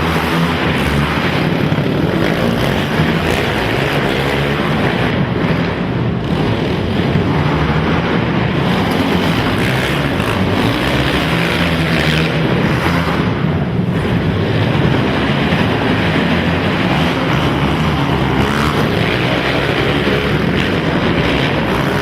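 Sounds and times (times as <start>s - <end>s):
quad engines droning: 0.0s - 22.0s.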